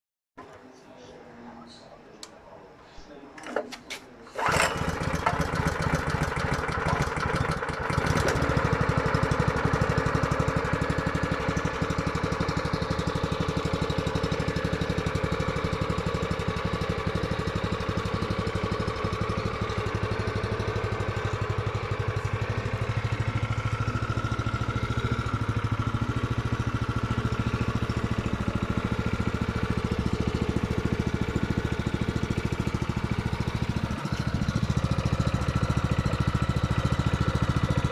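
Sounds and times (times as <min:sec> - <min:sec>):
small engine starting and running: 0:04.3 - 0:37.9.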